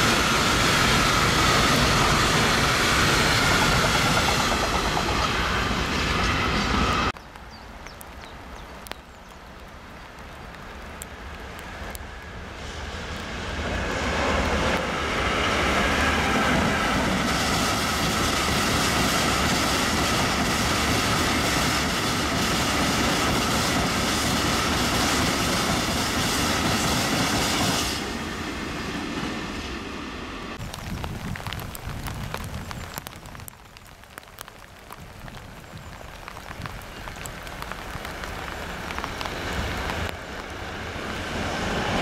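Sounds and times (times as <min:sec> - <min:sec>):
train wheels on rails: 0:00.0 - 0:07.2, 0:11.0 - 0:33.1, 0:36.2 - 0:42.0.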